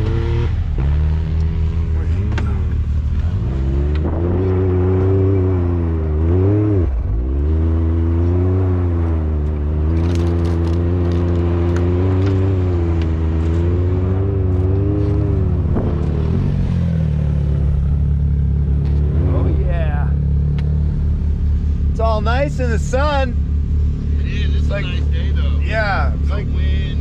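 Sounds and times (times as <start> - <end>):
utility vehicle engine revving: 0.0 - 27.0.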